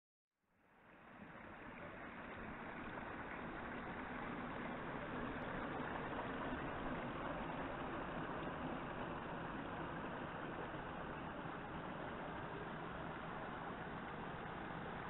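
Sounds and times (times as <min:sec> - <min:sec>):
waterfall splashing into a pool: 0:00.8 - 0:15.0.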